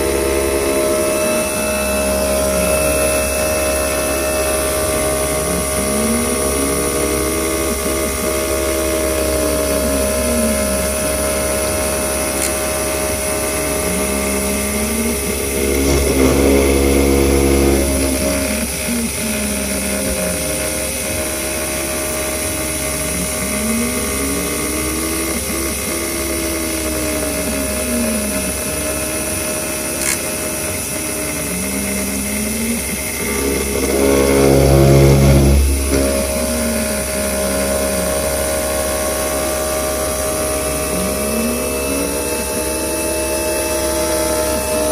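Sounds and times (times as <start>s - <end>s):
lower whine rising and falling: 0.0s - 44.9s
milling machine cutting whine: 0.0s - 44.9s.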